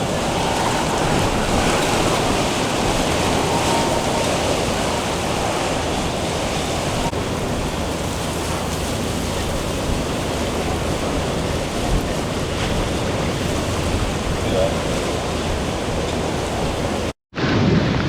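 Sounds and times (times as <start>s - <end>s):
hurricane winds rushing: 0.0s - 18.0s.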